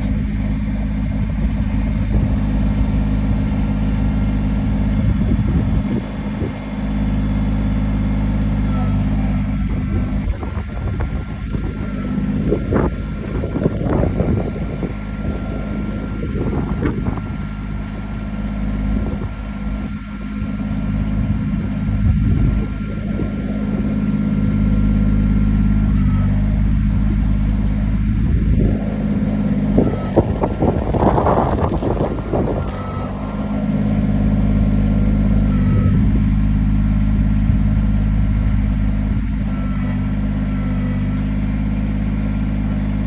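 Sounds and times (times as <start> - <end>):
backhoe diesel engine running: 0.0 - 43.0.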